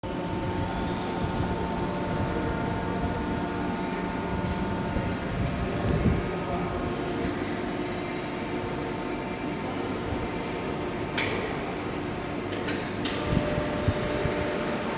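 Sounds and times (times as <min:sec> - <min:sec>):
high steady whine: 0:00.0 - 0:14.9.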